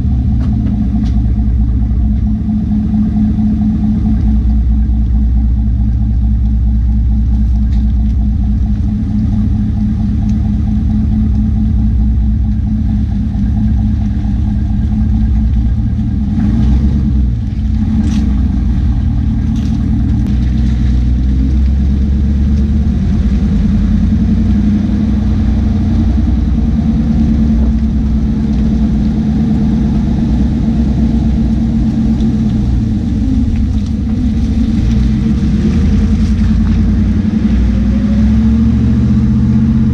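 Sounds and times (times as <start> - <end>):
truck engine deep drone: 0.0 - 39.9.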